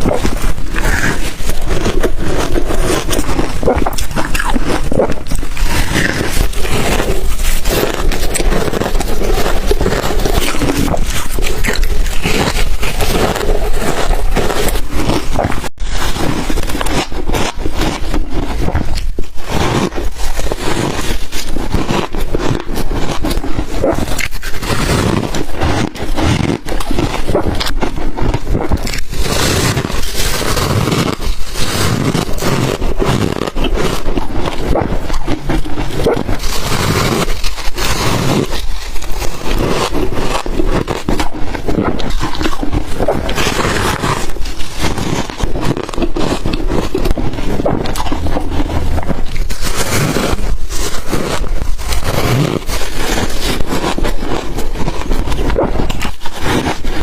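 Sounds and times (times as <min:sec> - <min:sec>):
ice crunching when chewed: 0:00.0 - 0:57.0.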